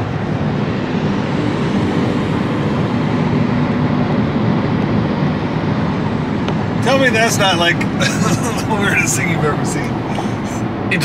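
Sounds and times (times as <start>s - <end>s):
car road and engine noise: 0.0s - 11.0s
low tyre rumble: 0.0s - 11.0s.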